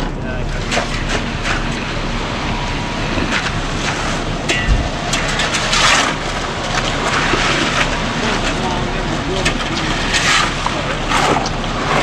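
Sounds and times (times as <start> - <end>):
diesel engine running: 0.0 - 12.0
loud rushing hissing noise: 0.6 - 12.0.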